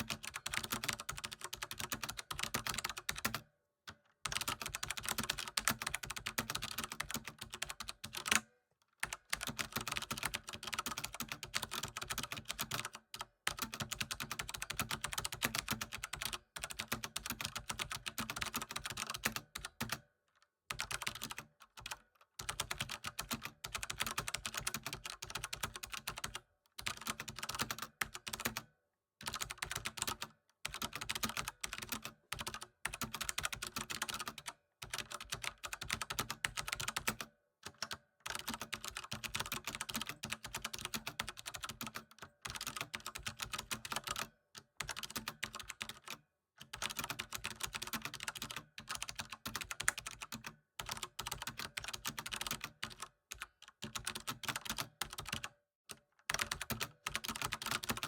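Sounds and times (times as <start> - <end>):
typing on computer keyboard: 0.0 - 20.1, 20.7 - 58.0.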